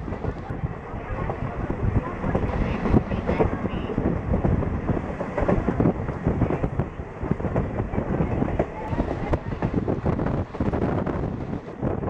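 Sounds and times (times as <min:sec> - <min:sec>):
train wheels rumbling and clattering: 0:00.0 - 0:12.0.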